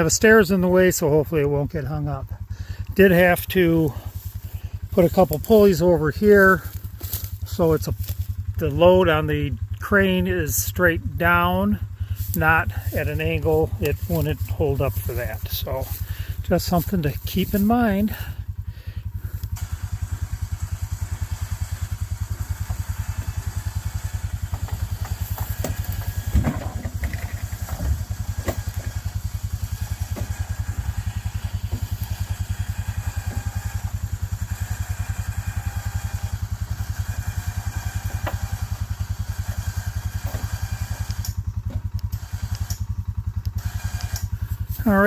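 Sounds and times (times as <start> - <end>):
small engine putter: 1.0 - 45.0.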